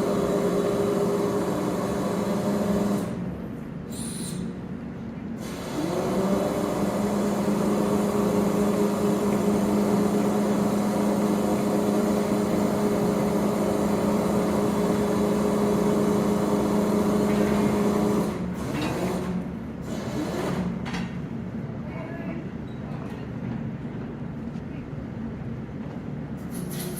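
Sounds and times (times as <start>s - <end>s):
low machine noise: 0.0s - 26.9s.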